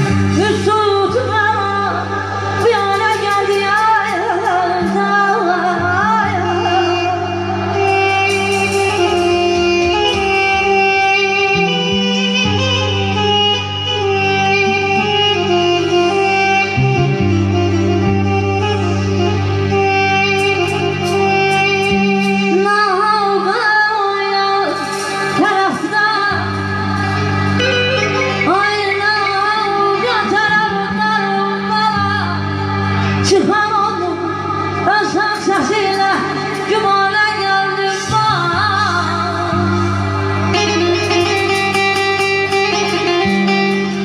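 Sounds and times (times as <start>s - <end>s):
keyboard accompaniment: 0.0s - 44.0s
woman singing into a microphone: 0.0s - 44.0s.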